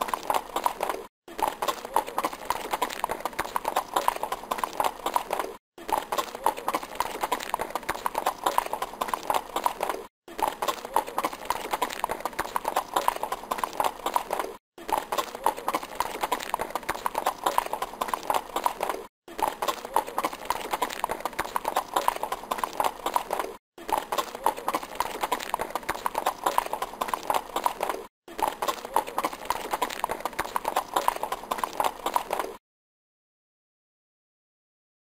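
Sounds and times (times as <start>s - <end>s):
horse hoofbeats clip-clopping: 0.0s - 32.6s.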